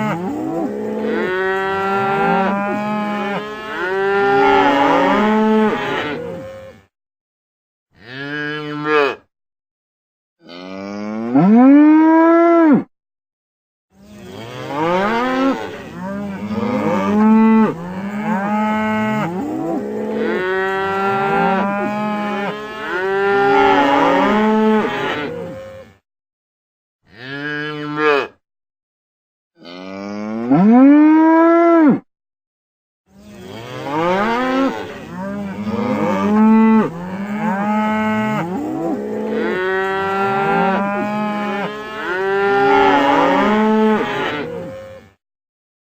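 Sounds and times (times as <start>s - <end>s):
cows mooing: 0.0s - 6.9s, 8.0s - 9.2s, 10.4s - 12.8s, 14.0s - 26.0s, 27.1s - 28.4s, 29.6s - 32.0s, 33.1s - 45.2s.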